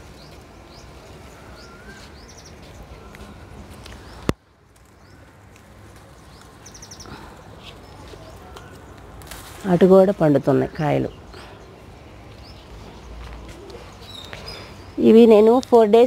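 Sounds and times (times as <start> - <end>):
small birds chirping and trilling: 0.0 - 16.0.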